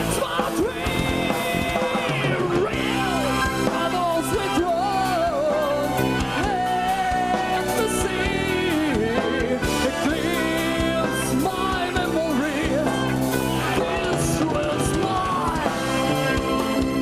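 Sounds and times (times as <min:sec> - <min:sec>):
bending lead melody: 0:00.0 - 0:17.0
rock band playing live: 0:00.0 - 0:17.0.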